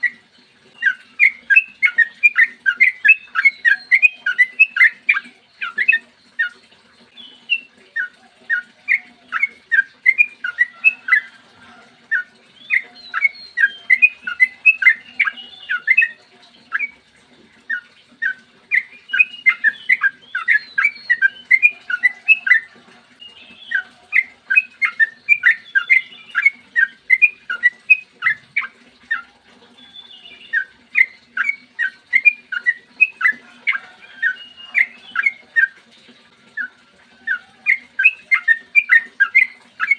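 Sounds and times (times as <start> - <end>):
bird singing bubbly notes: 0.0 - 39.9.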